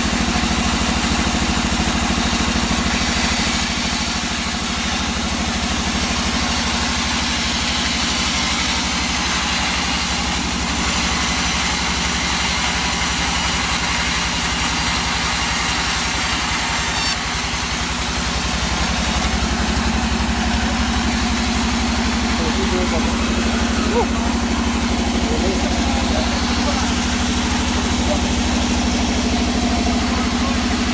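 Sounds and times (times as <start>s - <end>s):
saw engine running: 0.0s - 30.9s.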